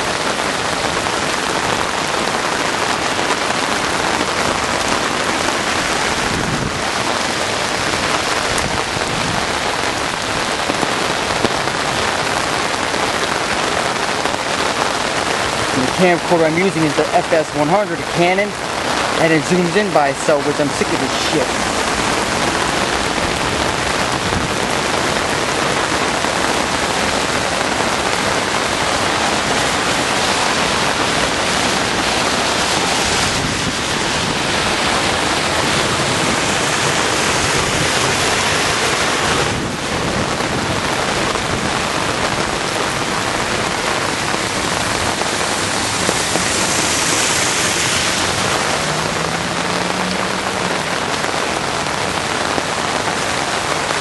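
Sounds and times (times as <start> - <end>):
heavy rain on ground and water: 0.0 - 54.0.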